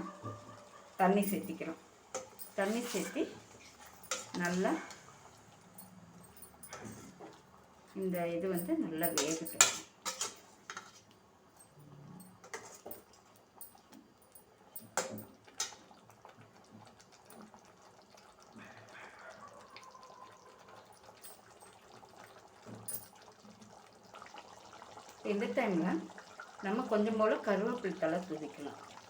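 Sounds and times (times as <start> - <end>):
gravy cooking in a pan: 0.0 - 29.0.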